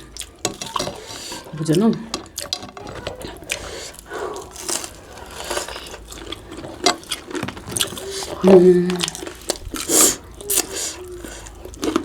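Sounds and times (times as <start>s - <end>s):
chewing: 0.0s - 12.0s
food being torn and bitten: 2.3s - 12.0s.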